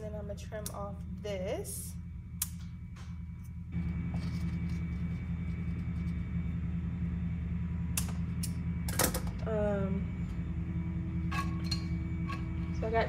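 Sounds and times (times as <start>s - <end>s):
steady low hum: 0.0s - 13.0s
faint high whine: 0.8s - 13.0s.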